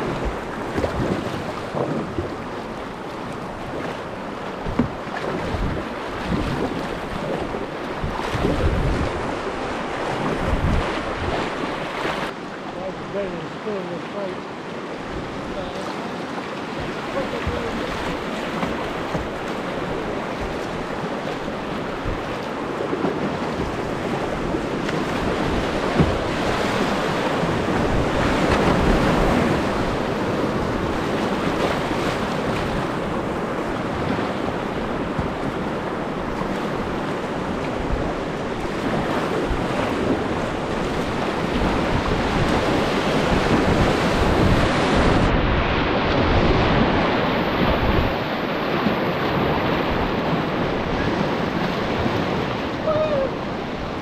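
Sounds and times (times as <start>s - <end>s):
wind on microphone: 0.0s - 12.3s, 15.0s - 54.0s
whitewater rushing: 0.0s - 36.9s, 37.6s - 54.0s
paddle splashes: 0.0s - 54.0s.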